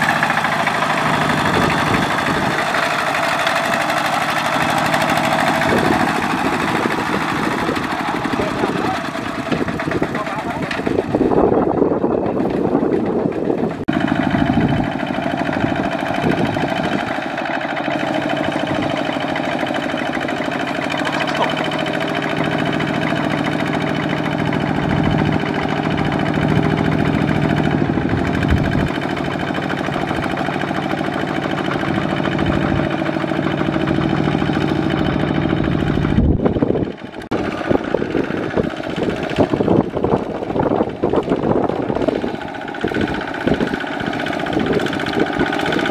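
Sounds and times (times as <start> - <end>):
diesel tractor engine running: 0.0 - 45.9.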